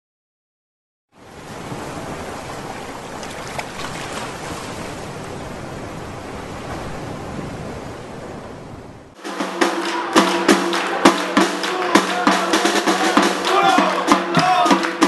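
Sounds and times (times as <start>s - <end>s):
surf-like rushing noise: 1.2s - 15.0s.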